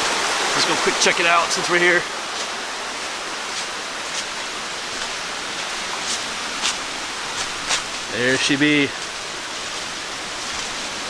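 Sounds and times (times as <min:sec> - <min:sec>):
stream and waterfall rushing: 0:00.0 - 0:11.0.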